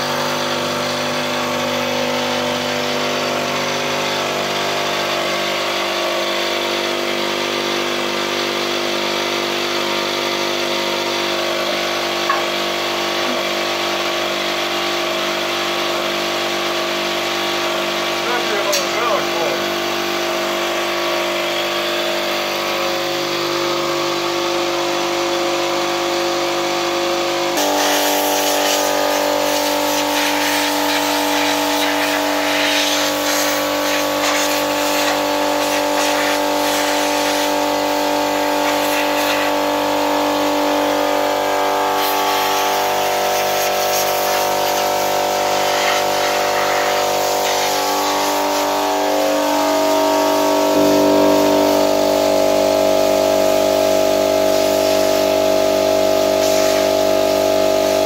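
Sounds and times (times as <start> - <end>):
motor humming: 9.1 - 58.0.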